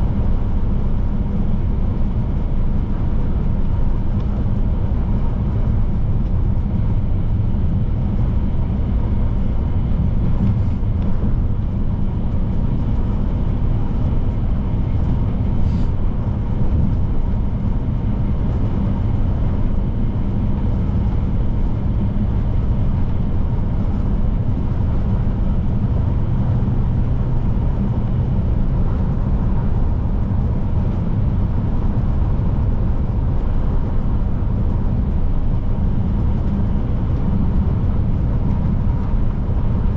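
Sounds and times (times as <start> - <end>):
road and tyre noise: 0.0 - 39.9
truck diesel engine cruising: 0.0 - 39.9.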